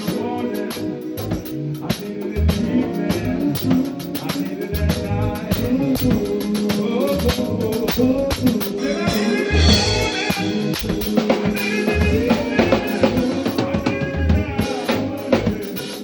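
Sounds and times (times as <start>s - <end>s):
drum kit beat: 0.0s - 16.0s
guitar: 0.0s - 16.0s.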